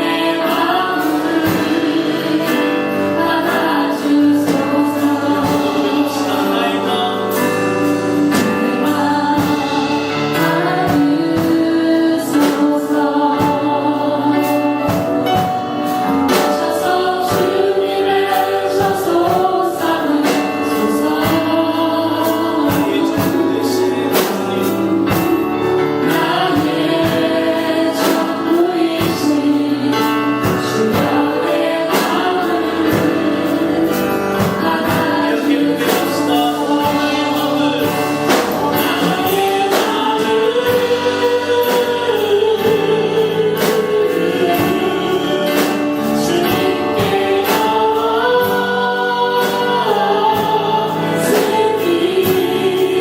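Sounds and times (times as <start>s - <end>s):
choir singing worship song: 0.0s - 53.0s
instrumental accompaniment: 0.0s - 53.0s.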